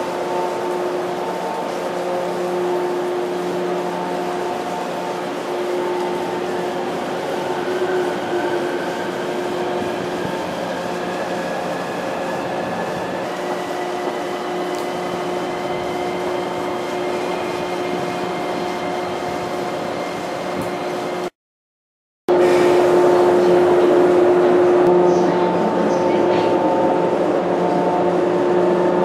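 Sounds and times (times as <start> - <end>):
electric train equipment humming: 0.0 - 21.3, 22.3 - 29.0.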